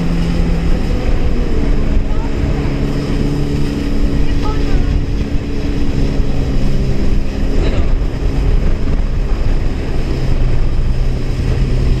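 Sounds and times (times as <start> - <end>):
jet ski engine droning: 0.0 - 12.0
rushing water: 0.0 - 12.0
wind buffeting microphone: 0.0 - 12.0.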